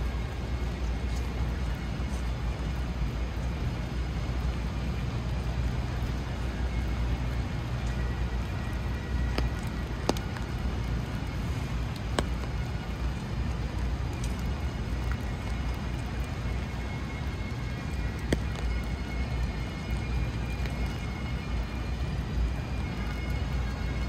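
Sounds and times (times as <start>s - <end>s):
low traffic rumble: 0.0s - 24.0s
steady rain: 0.0s - 24.0s.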